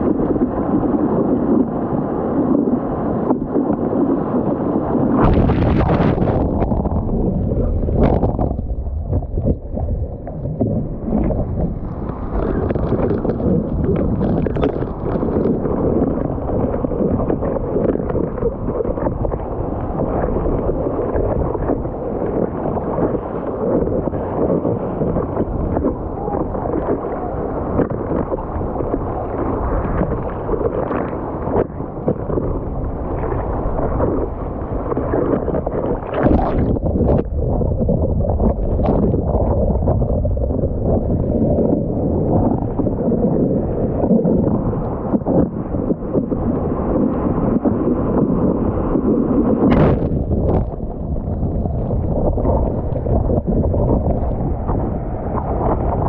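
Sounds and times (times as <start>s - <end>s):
ocean water sloshing and splashing: 0.0s - 56.0s.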